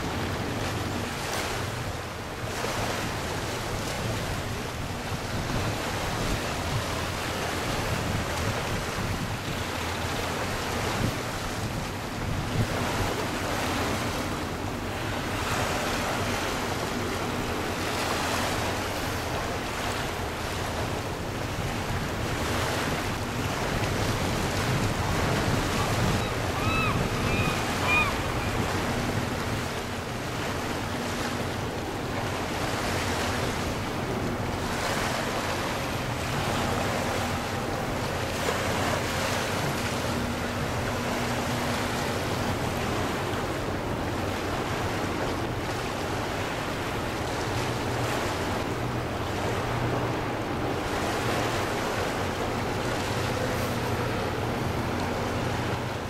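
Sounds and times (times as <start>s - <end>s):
water washing at shoreline: 0.0s - 56.0s
wind on microphone: 1.3s - 14.1s, 14.9s - 56.0s.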